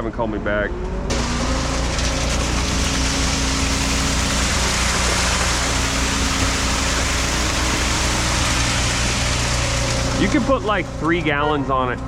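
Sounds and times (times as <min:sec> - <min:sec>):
diesel truck engine running: 0:01.1 - 0:12.0.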